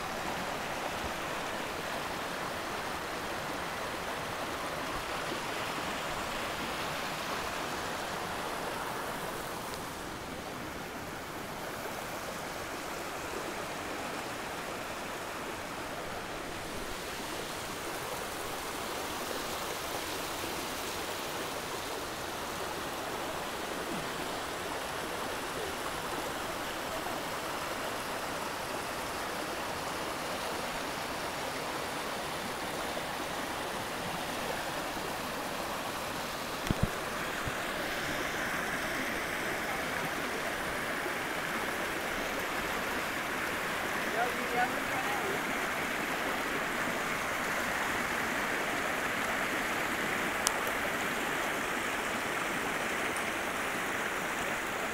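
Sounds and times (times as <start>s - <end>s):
creek babbling over boulders: 0.0s - 54.9s.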